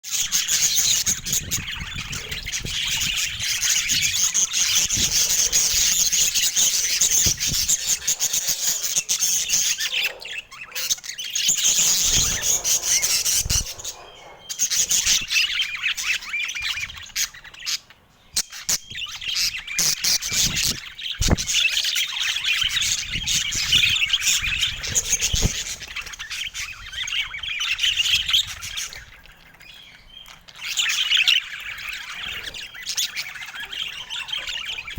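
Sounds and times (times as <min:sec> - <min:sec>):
budgerigars chattering and warbling: 0:00.0 - 0:34.9.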